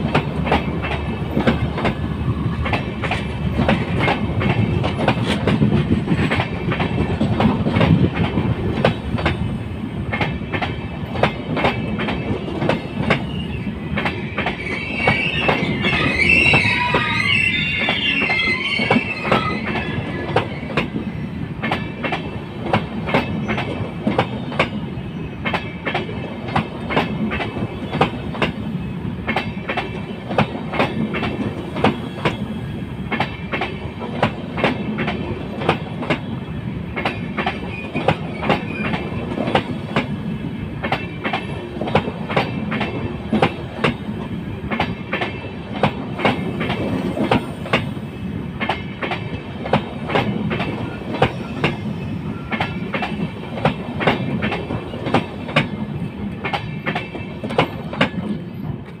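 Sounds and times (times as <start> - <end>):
train wheels clicking over rail joints: 0.0 - 17.1, 17.8 - 59.0
train rumble: 0.0 - 59.0.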